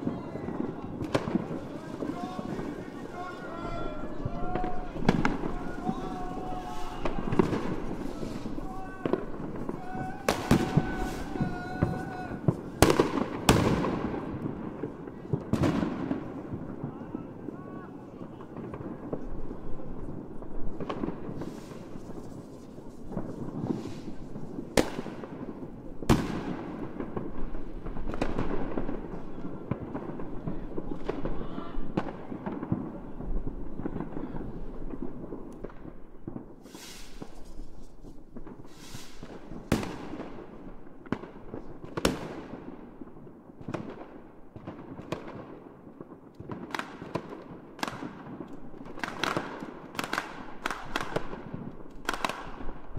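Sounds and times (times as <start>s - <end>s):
fireworks bangs: 0.0s - 52.9s
fireworks crackling and hissing: 0.0s - 52.9s.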